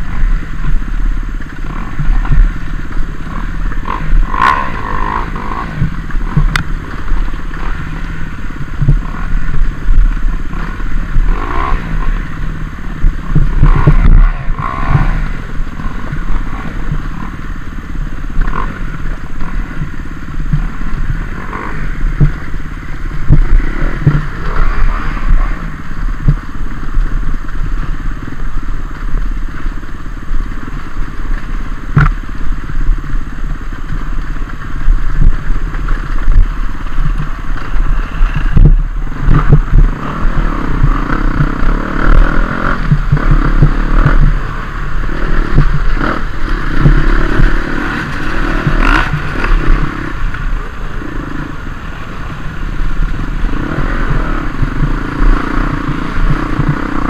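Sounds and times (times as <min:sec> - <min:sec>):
dirt bike engine revving: 0:00.0 - 0:28.3, 0:30.4 - 0:57.0.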